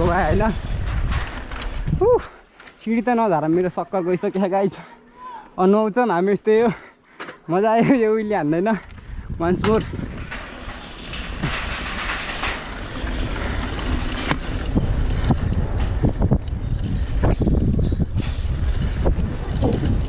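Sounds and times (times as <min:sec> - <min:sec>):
wheels clanking on metal: 0:00.0 - 0:04.2, 0:07.1 - 0:20.0
bicycle tyres rumbling on grating: 0:00.0 - 0:04.5, 0:07.8 - 0:20.0.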